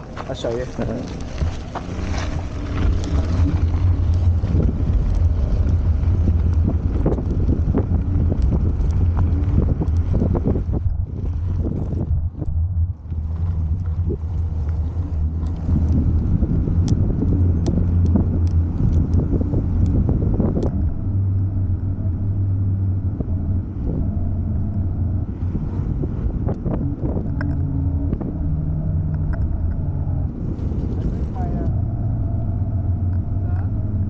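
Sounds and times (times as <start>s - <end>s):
road rumble: 0.0s - 34.0s
wind buffeting microphone: 0.0s - 34.0s.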